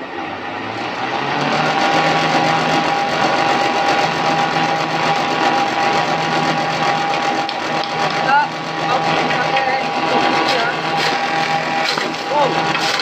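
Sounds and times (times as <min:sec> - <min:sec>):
chaff cutter motor whining: 0:00.0 - 0:13.0.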